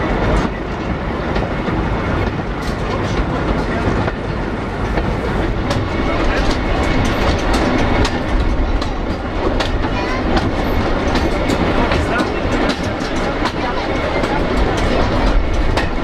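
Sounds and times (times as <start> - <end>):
railway carriage rumble: 0.0 - 16.0
wheels clicking over rail joints: 2.2 - 16.0.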